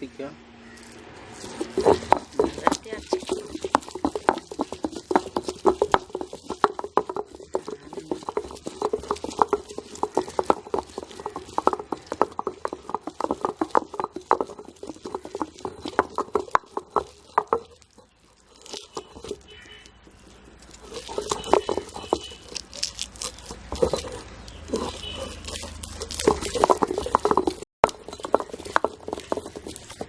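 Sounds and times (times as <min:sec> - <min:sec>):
stone pestle crushing knocks: 0:00.8 - 0:30.0.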